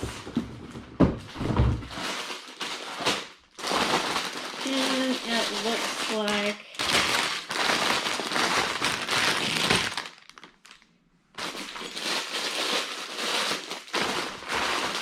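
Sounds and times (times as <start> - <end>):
plastic bags crinkling: 1.3 - 15.0.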